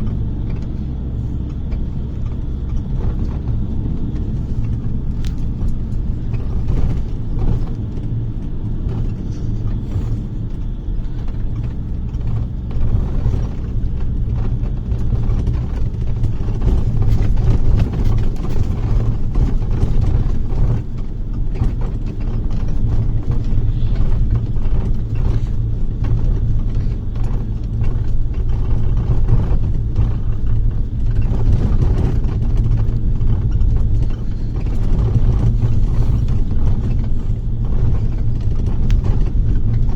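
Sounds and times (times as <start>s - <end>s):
bus engine drone: 0.0s - 39.9s
small clicks and rattles: 0.0s - 39.9s.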